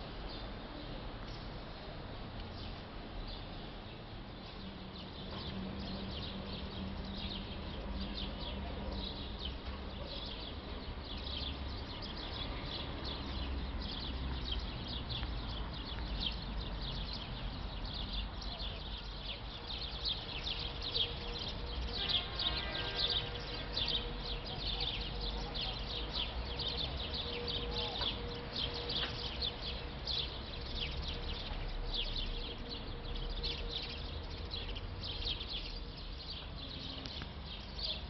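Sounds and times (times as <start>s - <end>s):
small birds chirping: 0.2s - 38.0s.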